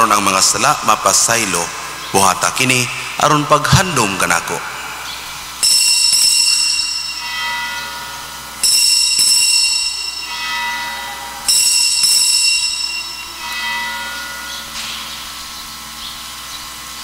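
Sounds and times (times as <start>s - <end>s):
altar bell ringing: 0.0s - 16.5s.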